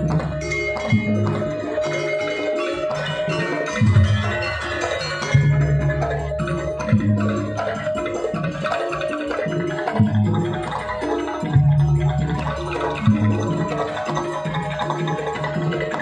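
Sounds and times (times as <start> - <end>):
metallophone tones: 0.0 - 16.0.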